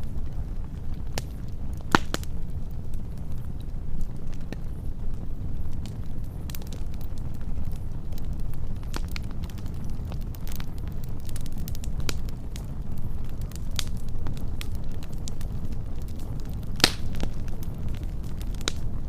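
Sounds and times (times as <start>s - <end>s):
fire crackles and pops: 0.0s - 19.0s
wood fire rumbling: 0.0s - 19.0s.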